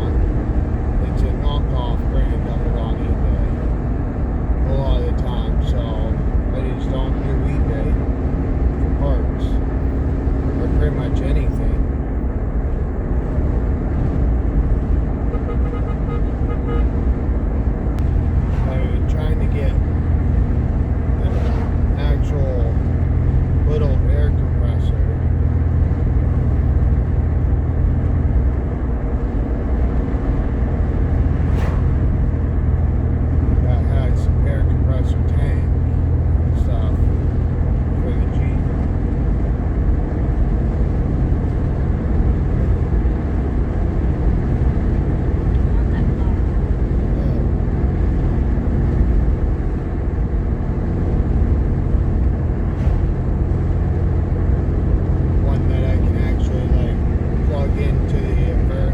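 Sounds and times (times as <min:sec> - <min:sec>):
engine and road rumble in car: 0:00.0 - 0:58.9.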